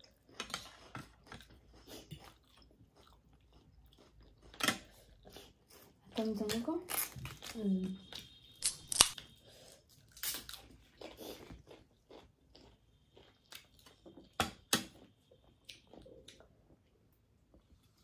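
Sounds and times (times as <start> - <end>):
people chewing: 0.0 - 18.0.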